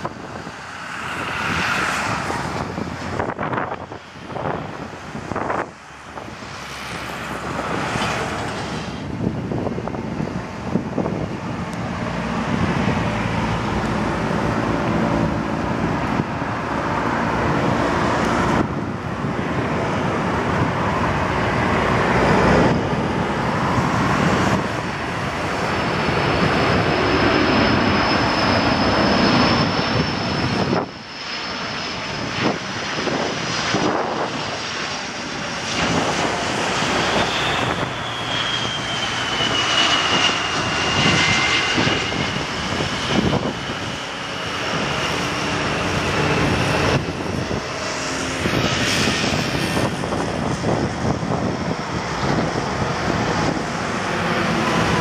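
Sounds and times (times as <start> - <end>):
jet engine noise with whine: 0.0 - 55.0.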